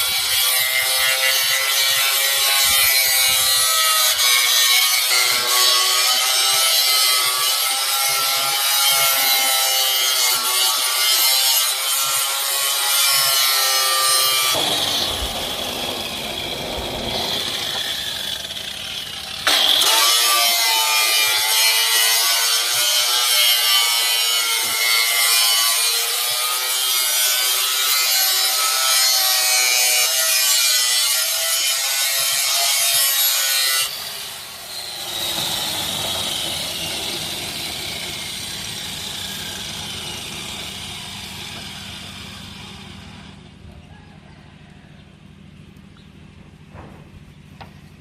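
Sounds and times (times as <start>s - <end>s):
tool grinding metal: 0.0s - 43.4s.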